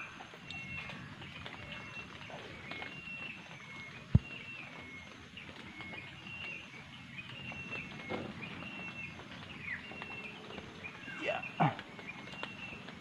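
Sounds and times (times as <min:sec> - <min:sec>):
leaves and branches rustling: 0:00.0 - 0:13.0
small birds chirping: 0:00.0 - 0:13.0.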